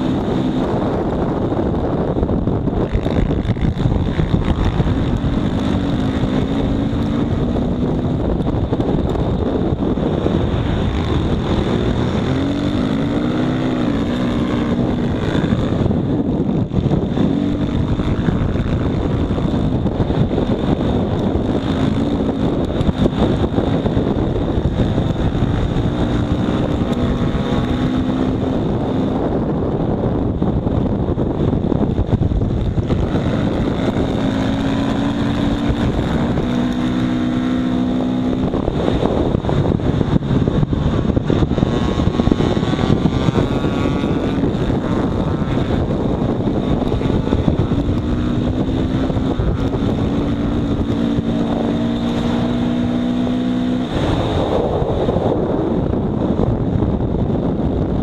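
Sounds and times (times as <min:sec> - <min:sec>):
dirt bike engine: 0:00.0 - 0:58.0
wind noise on microphone: 0:00.0 - 0:58.0.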